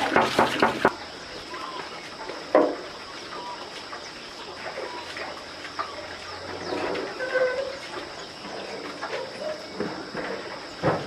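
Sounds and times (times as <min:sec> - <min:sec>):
chickens calling: 0:00.0 - 0:11.0
small birds calling: 0:00.8 - 0:11.0.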